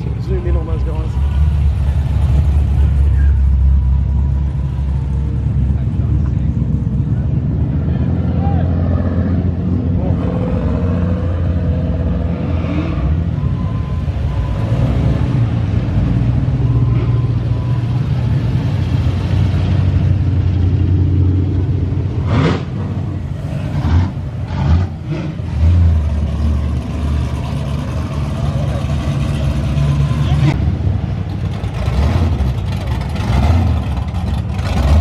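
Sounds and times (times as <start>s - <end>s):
cars exhaust rumble: 0.0s - 35.0s.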